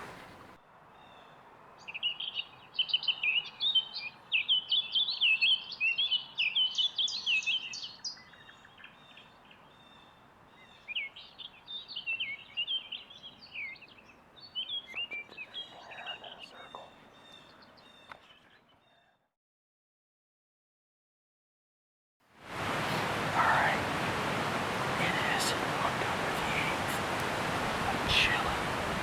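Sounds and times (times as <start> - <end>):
small birds chirping: 0.0 - 19.2, 22.6 - 29.0.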